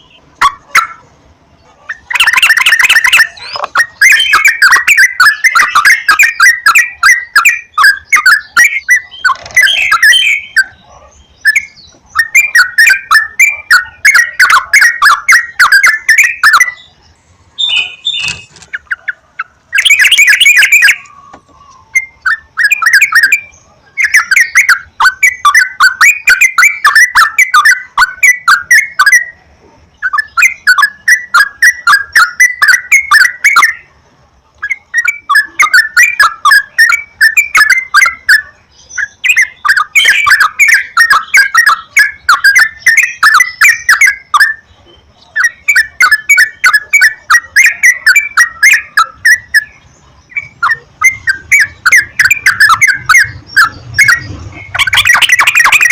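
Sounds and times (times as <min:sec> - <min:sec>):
bird chattering song: 0:00.0 - 0:55.9.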